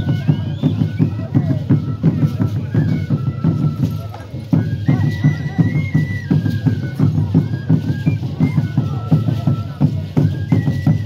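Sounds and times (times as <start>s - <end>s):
drums beating steady rhythm: 0.0s - 11.0s.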